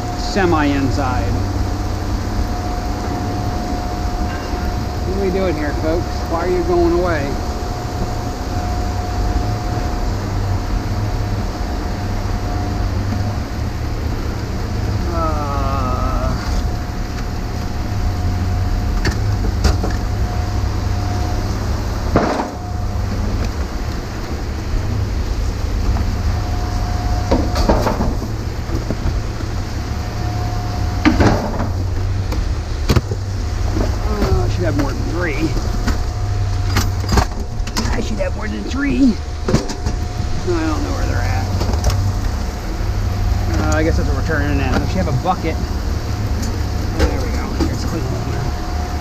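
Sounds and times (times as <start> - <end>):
faint steady whine: 0.0 - 49.0
heavy rain falling: 0.0 - 49.0
low rumble: 0.0 - 49.0.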